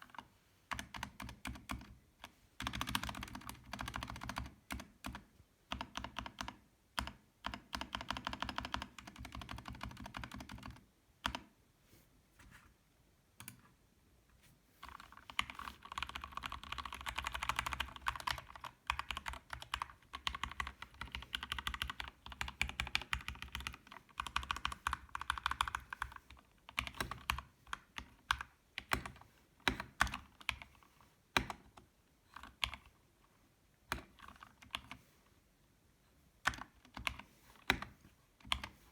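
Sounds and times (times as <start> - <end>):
mechanical keyboard typing: 0.0 - 2.0, 2.6 - 11.5, 14.8 - 30.8, 31.4 - 32.9, 33.9 - 35.0, 36.4 - 38.8.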